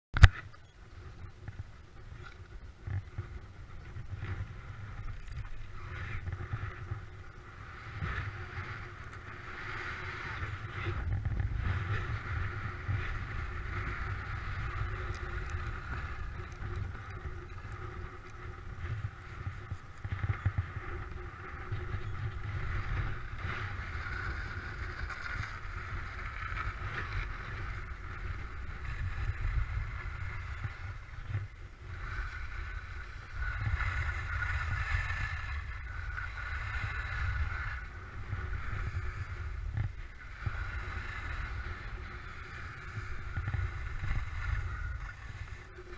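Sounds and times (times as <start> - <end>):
wind buffeting microphone: 0.1 - 45.9
skis scraping over snow: 0.9 - 45.9.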